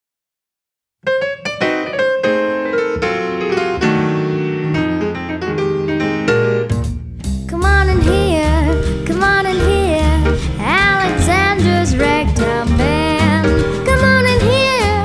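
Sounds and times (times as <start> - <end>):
piano chords and runs: 1.1 - 15.0.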